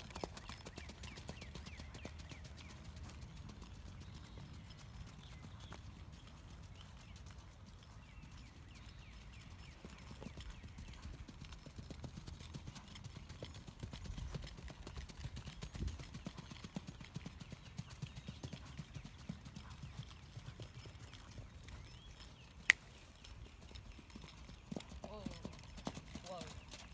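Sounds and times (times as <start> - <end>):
hooves striking dirt track: 0.0 - 26.9.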